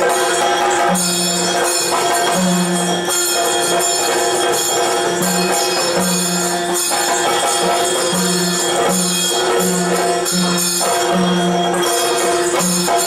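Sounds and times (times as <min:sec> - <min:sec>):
drums: 0:00.0 - 0:13.0
jingling bells: 0:00.0 - 0:13.0.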